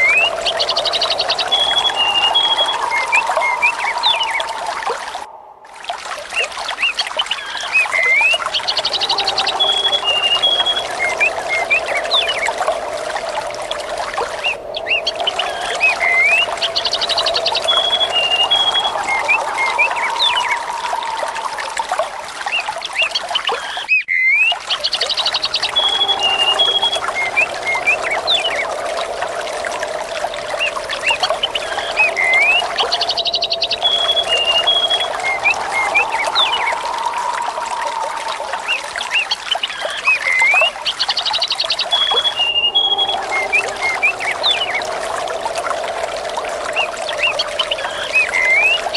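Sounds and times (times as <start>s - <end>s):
water trickling: 0.0s - 48.9s
small birds chirping: 6.4s - 21.6s, 22.5s - 37.9s, 38.6s - 48.9s.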